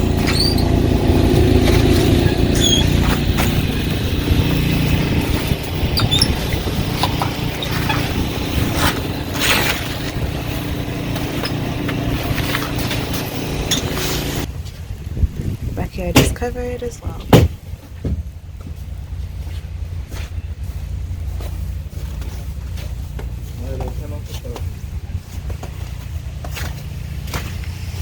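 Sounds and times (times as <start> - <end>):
car engine idling: 0.0 - 15.0, 16.1 - 28.0.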